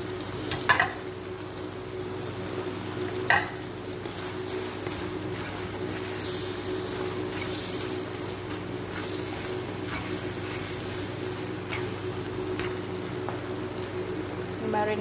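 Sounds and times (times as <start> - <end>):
shrimp sizzling in a pan: 0.0 - 15.0.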